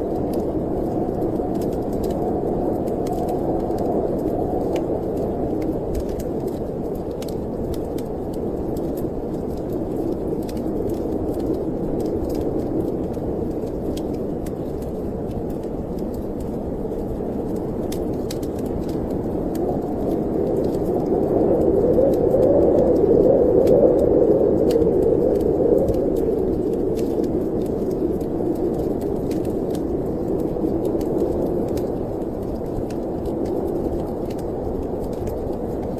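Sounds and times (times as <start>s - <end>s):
snowstorm wind blowing: 0.0s - 35.9s
wood fire crackling: 0.0s - 35.9s.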